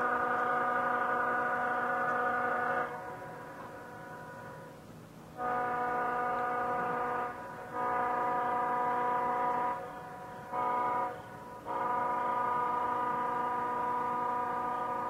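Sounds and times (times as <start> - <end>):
locomotive air horn blasts: 0.0 - 4.7, 5.4 - 15.0.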